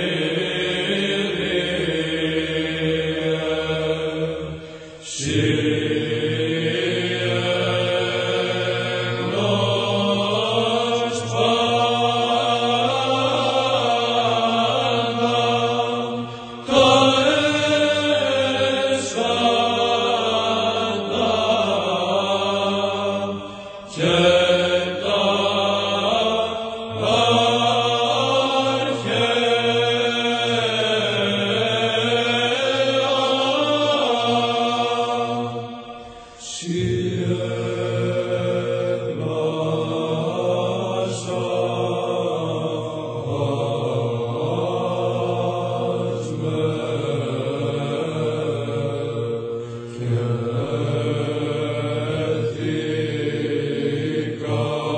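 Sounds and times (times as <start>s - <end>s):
chanted singing: 0.0s - 54.9s
steady low drone: 0.0s - 54.9s.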